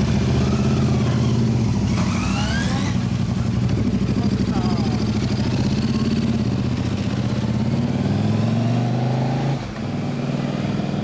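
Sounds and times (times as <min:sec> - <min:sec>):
motorcycle engine accelerating: 0:00.0 - 0:11.0
quieter motorcycle engine: 0:00.0 - 0:11.0.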